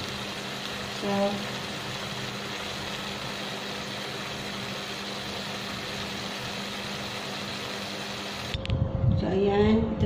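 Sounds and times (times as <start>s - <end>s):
kitchen machine humming: 0.0s - 8.6s.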